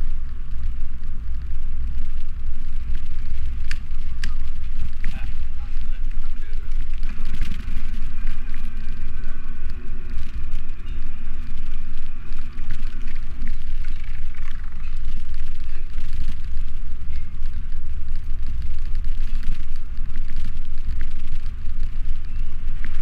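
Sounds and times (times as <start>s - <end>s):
wind and road rumble: 0.0s - 23.0s.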